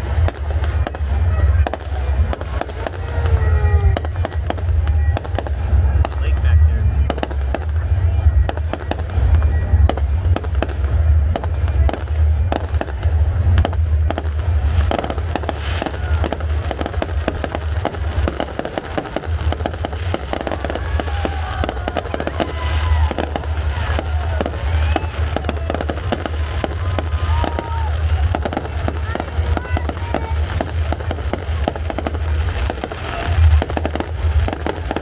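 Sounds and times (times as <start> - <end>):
deep rumble: 0.0 - 35.0
fireworks bangs and crackles: 0.0 - 35.0.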